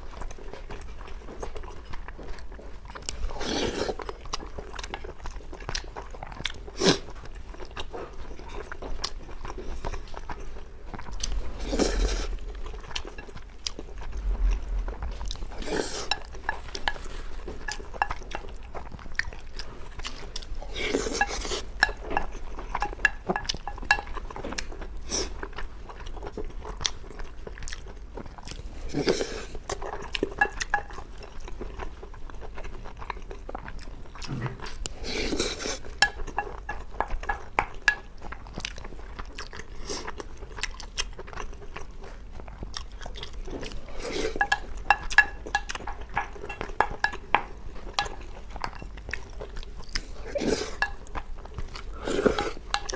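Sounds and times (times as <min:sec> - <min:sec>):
chewing and biting food: 0:00.0 - 0:52.9.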